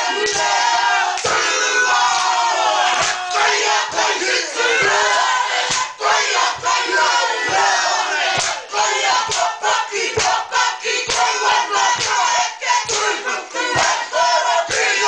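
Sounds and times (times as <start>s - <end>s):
group shouting rhythmic chant: 0.0s - 15.0s.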